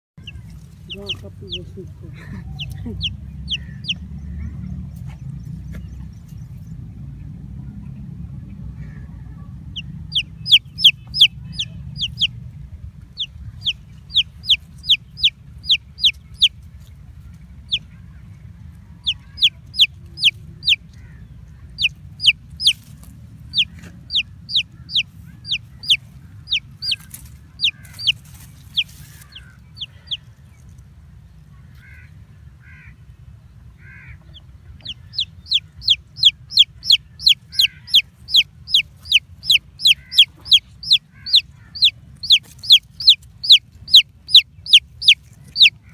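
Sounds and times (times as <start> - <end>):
baby chicks peeping: 0.2 - 33.0, 33.8 - 45.9
low steady hum: 0.2 - 45.9.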